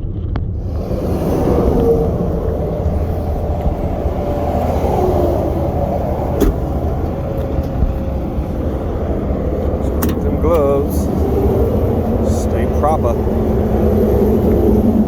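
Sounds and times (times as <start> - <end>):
engine low rumble: 0.0 - 15.0.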